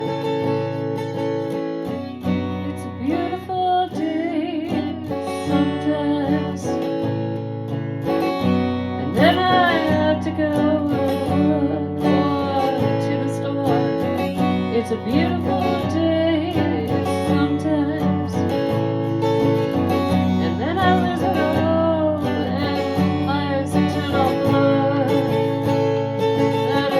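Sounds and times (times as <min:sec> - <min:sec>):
acoustic guitar strumming: 0:00.0 - 0:26.9
sliding guitar melody: 0:00.0 - 0:26.9.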